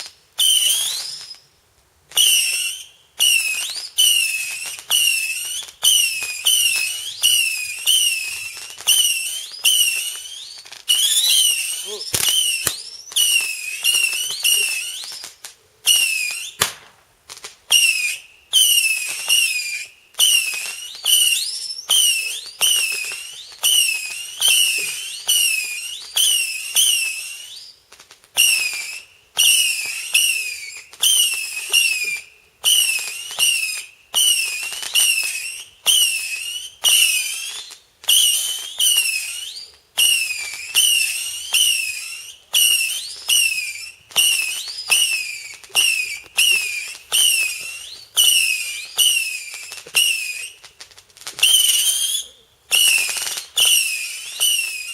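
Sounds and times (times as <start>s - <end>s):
firework whistles: 0.0s - 54.9s.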